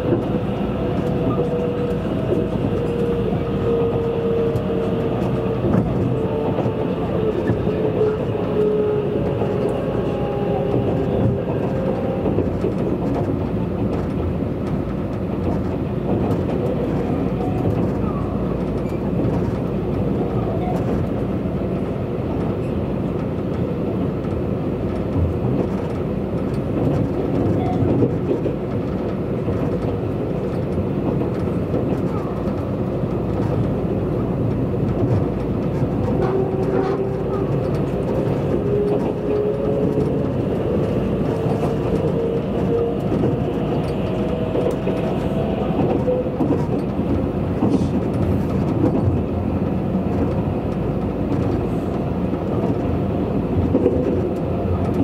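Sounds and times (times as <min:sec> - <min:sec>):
train running noise: 0:00.0 - 0:55.0.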